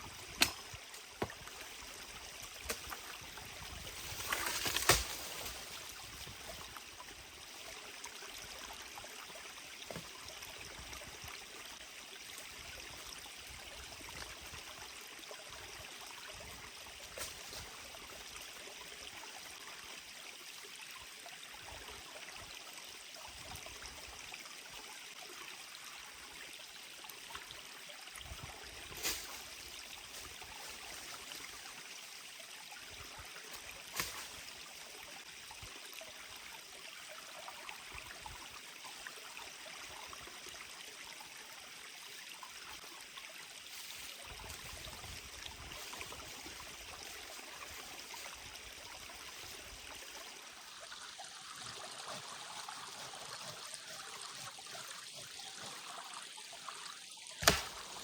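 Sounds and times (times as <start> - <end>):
mountain stream running: 0.0 - 58.0.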